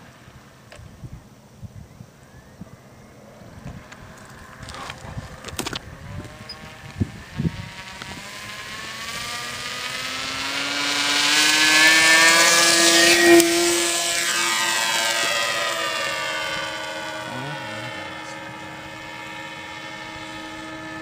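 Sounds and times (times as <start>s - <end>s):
model airplane motor whine: 2.2s - 21.0s.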